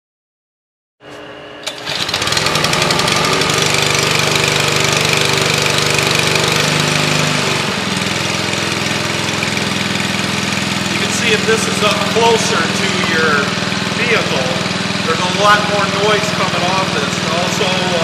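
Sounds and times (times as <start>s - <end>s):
small gasoline engine running: 1.6s - 18.0s.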